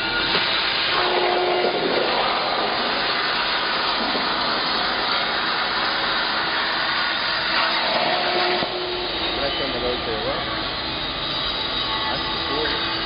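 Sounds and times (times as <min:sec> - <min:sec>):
plasma cutting torch hissing: 0:00.0 - 0:13.0.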